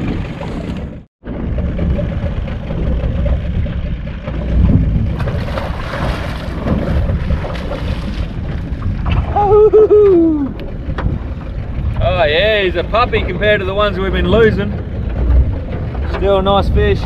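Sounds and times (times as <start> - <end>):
boat engine rumble: 0.0 - 17.0
water against hull: 0.0 - 17.0
wind buffeting microphone: 0.0 - 17.0.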